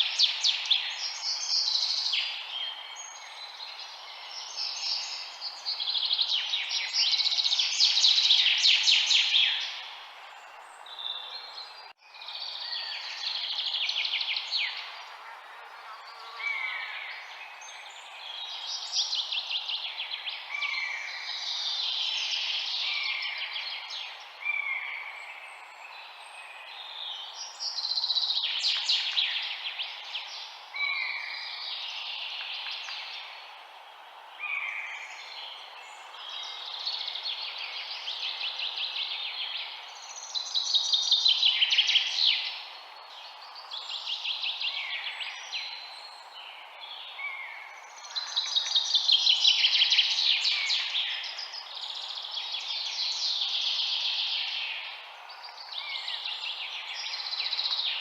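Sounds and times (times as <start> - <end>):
background hiss: 0.0 - 58.0
songbirds singing and calling: 0.0 - 58.0.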